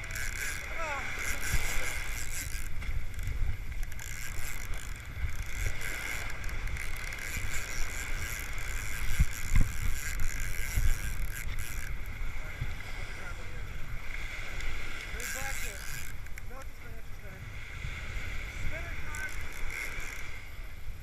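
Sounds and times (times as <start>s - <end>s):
surf washing: 0.0s - 21.0s
wind buffeting microphone: 0.0s - 21.0s.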